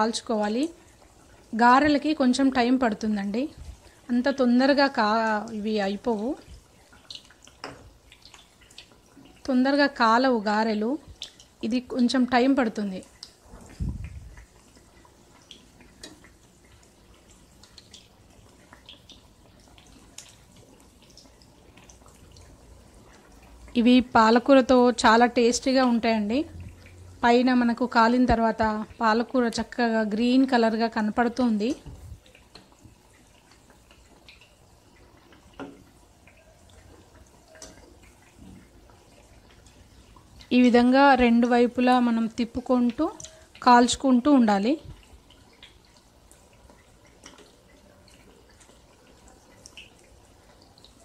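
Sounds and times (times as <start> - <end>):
food deep-frying in oil: 0.0 - 51.0.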